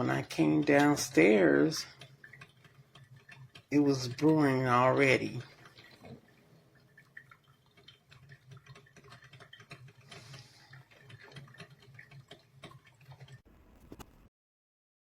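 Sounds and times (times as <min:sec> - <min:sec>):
coffee maker dripping and popping: 0:00.0 - 0:14.2.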